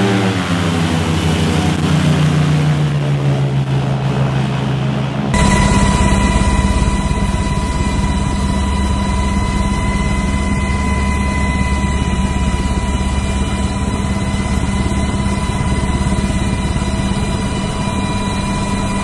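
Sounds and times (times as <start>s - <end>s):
motor rumbling with high whine: 0.0s - 19.0s.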